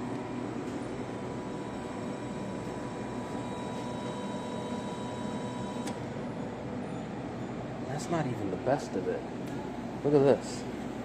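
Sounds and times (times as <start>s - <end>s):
store interior hum: 0.0s - 11.0s.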